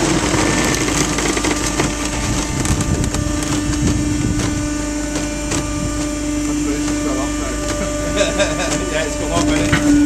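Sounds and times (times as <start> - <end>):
cardboard bale creaking and cracking: 0.0 - 10.0
hydraulic power pack humming: 0.0 - 10.0.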